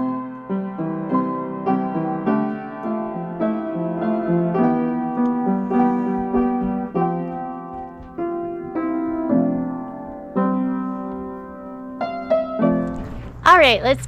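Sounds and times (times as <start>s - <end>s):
slow piano melody: 0.0s - 13.4s.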